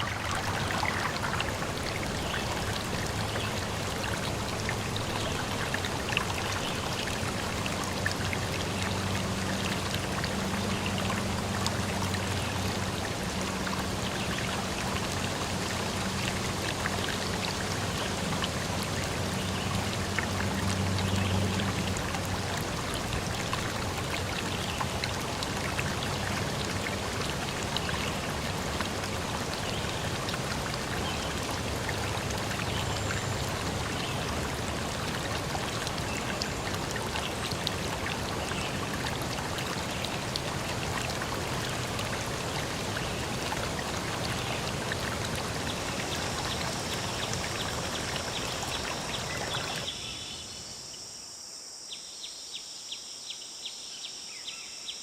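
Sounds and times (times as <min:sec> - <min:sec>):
rush of running water: 0:00.0 - 0:50.1.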